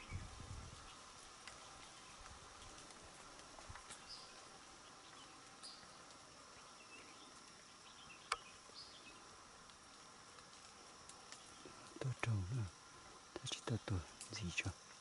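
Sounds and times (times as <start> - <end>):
faint forest insects droning: 0.0 - 15.0.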